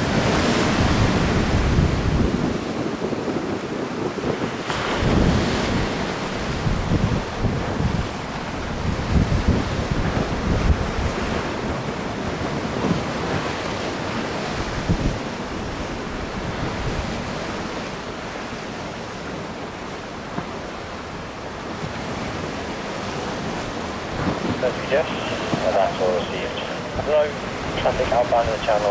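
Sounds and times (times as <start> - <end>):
choppy water rushing: 0.0 - 28.9
wind blowing across microphone: 0.0 - 28.9.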